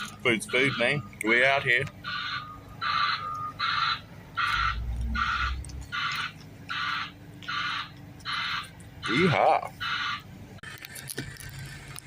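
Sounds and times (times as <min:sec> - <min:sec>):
hissing reversing alarm beeps: 0:00.2 - 0:10.2.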